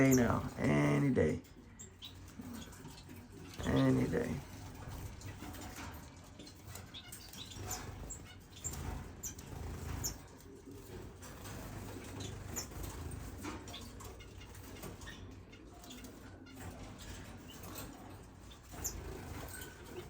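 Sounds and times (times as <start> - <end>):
finches fluttering wings: 2.0 - 20.0.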